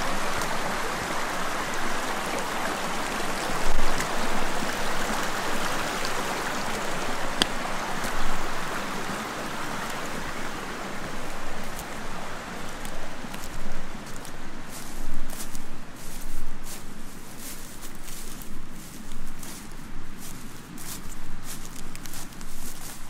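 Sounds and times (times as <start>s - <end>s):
stream babbling over stones: 0.0s - 23.0s.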